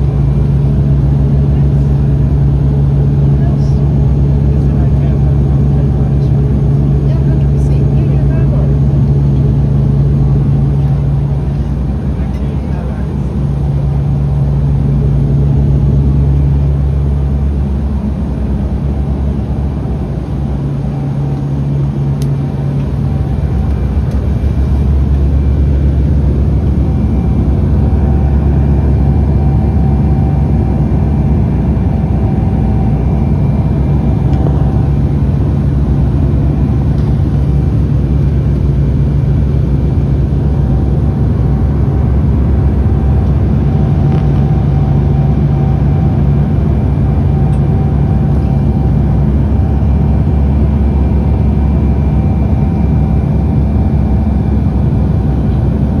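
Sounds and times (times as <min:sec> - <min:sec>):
deep hum: 0:00.0 - 0:56.0
propeller engine drone: 0:00.0 - 0:56.0.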